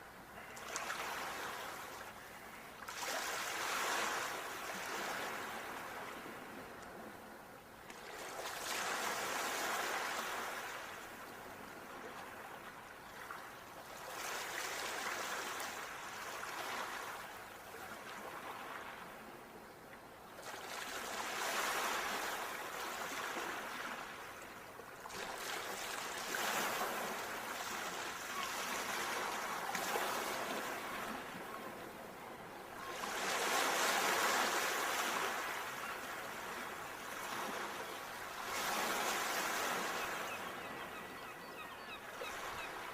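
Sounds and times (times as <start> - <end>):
sea waves breaking on shore: 0.3 - 7.1, 8.0 - 19.4, 20.4 - 41.1.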